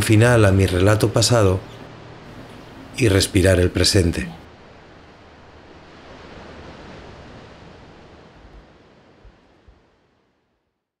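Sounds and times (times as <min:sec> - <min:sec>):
surf washing over sand: 0:00.0 - 0:10.5.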